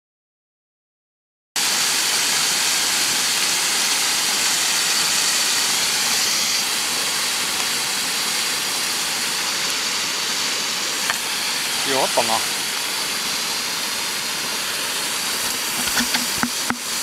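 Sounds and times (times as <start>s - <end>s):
stream water rushing: 1.6s - 17.0s.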